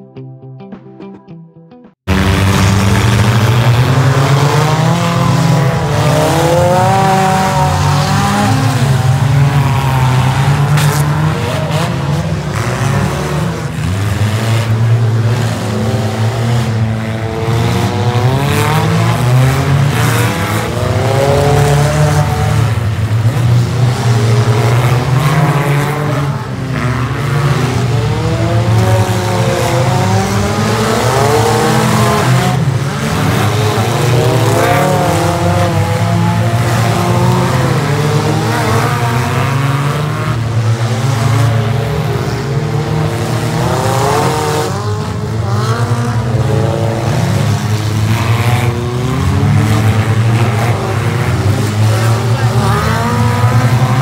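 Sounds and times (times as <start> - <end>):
car engines revving: 2.0 - 54.0.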